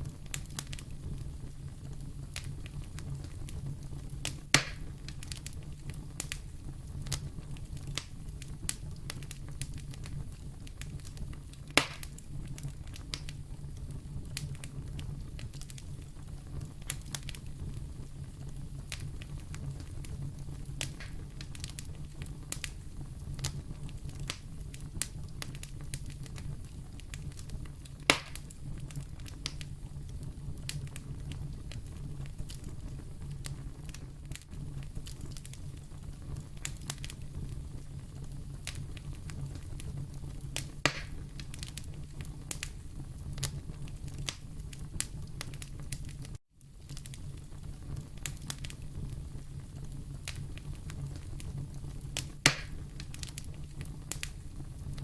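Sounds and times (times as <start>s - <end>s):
fire crackling in fireplace: 0.0s - 55.0s
sharp pops of fire: 0.0s - 55.0s.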